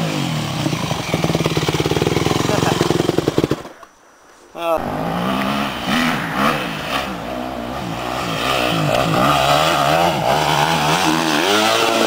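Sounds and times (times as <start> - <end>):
motocross bike engine revving: 0.0 - 3.8, 4.8 - 12.0.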